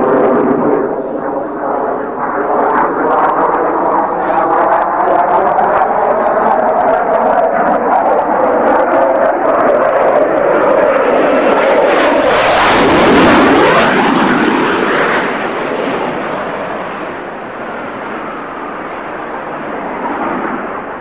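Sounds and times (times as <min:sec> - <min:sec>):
jet aircraft roar: 0:00.0 - 0:21.0.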